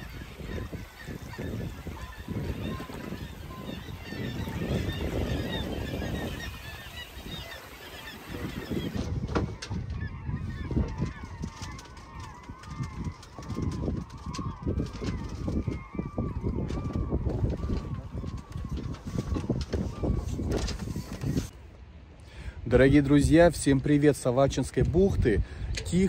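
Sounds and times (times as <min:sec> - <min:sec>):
seabirds honking: 0:00.0 - 0:21.4.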